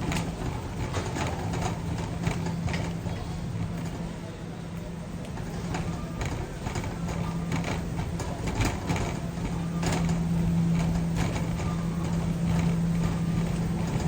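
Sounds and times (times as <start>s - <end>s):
shopping cart rattling: 0.0s - 14.0s
steady low hum: 0.0s - 14.0s.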